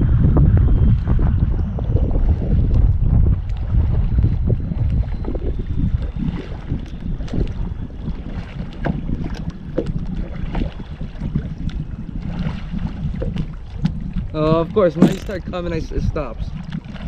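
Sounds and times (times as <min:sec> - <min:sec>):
wind rumbling on microphone: 0:00.0 - 0:17.0
water lapping and splashing: 0:00.9 - 0:17.0.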